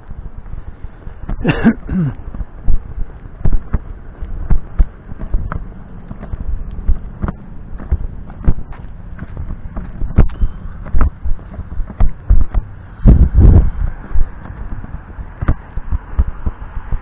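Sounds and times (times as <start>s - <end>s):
footsteps on pavement: 0.0s - 17.0s.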